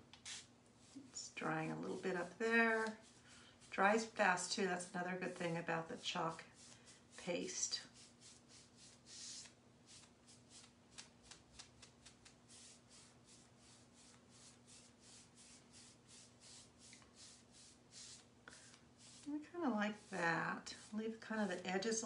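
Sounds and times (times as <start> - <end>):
low steady hum: 0.0 - 22.0
paintbrush swishing on wood: 0.1 - 22.0.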